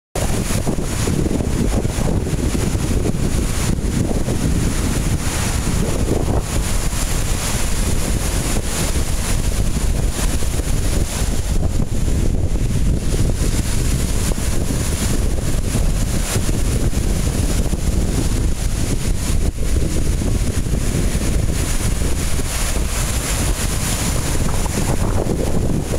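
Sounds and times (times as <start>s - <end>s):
waves breaking on shore: 0.2s - 25.9s
wind buffeting microphone: 0.2s - 25.9s.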